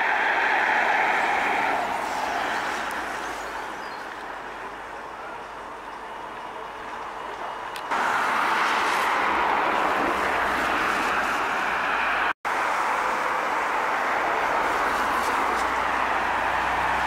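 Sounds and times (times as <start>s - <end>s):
cars hissing on wet road: 0.0s - 17.0s.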